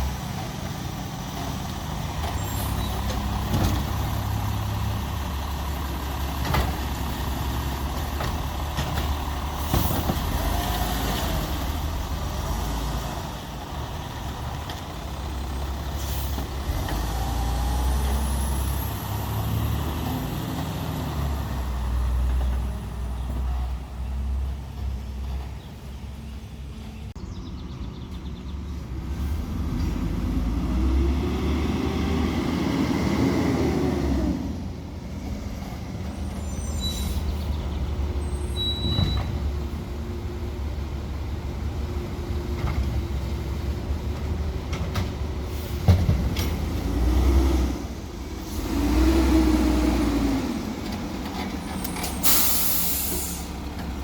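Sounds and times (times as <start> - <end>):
garbage truck diesel engine revving: 0.0 - 24.8, 28.9 - 36.6, 39.5 - 54.0.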